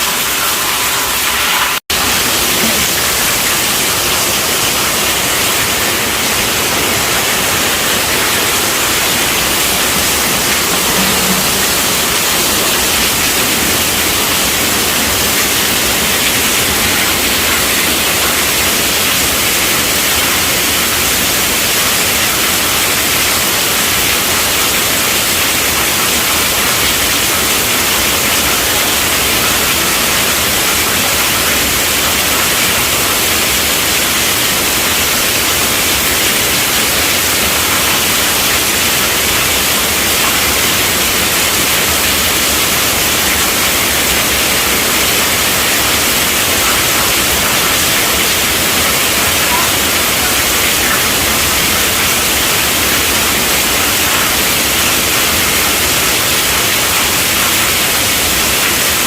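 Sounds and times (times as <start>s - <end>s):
heavy rain on a tent roof: 0.0s - 59.0s.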